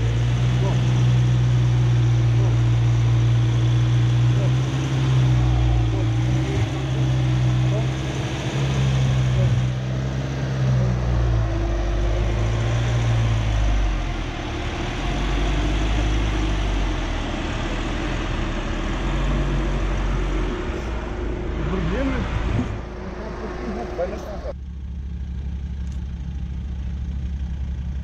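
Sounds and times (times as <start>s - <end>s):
engine low hum: 0.0s - 28.0s.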